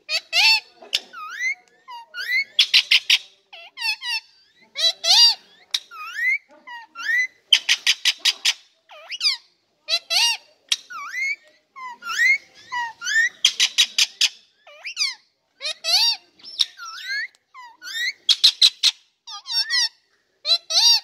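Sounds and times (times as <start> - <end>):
parakeet squawking: 0.1 - 19.9.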